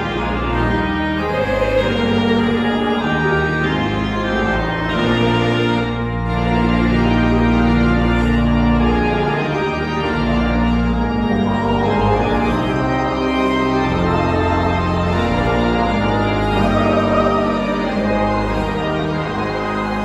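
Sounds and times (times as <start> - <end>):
pipe organ playing a hymn: 0.0 - 20.0.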